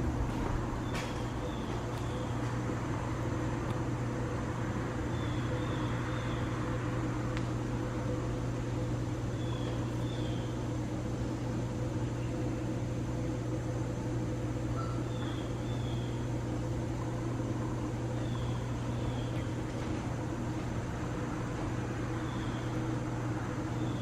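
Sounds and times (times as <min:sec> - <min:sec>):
ceiling fan humming: 0:00.0 - 0:24.0.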